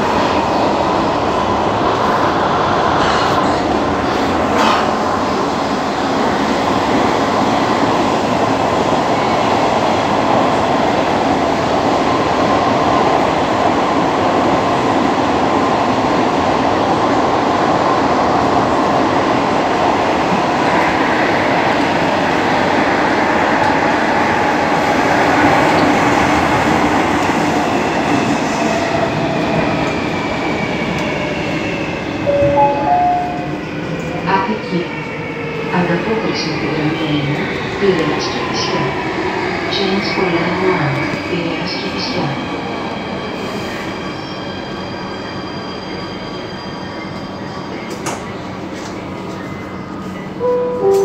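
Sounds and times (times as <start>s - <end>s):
train rumbling through tunnel: 0.0s - 51.0s.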